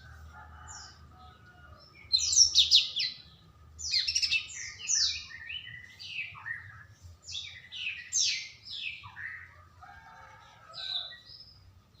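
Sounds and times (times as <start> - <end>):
bird singing rapid warble: 0.6 - 9.6, 10.4 - 12.0.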